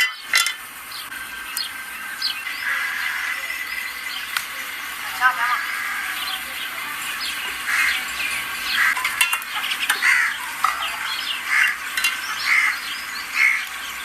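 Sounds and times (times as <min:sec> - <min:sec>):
utensil scraping round a pot: 0:02.4 - 0:13.8.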